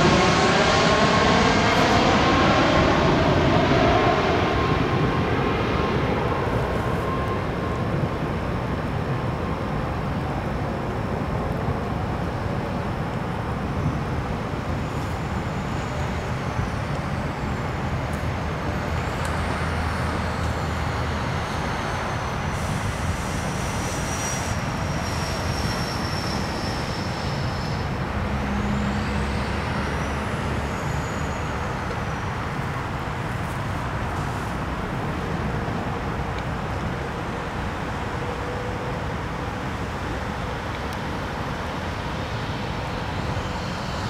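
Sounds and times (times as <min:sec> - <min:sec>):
city traffic: 0:00.0 - 0:44.0.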